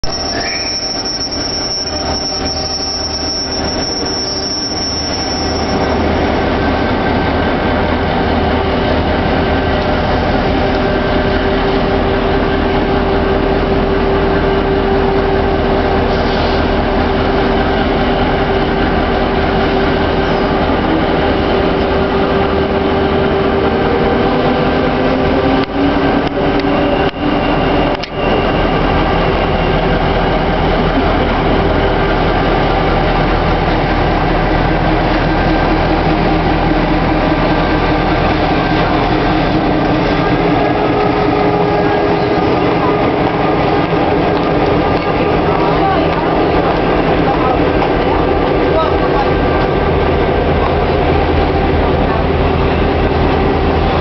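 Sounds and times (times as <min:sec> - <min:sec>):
diesel locomotive engine drone: 0:00.0 - 0:54.0
steady locomotive whine: 0:00.0 - 0:54.0.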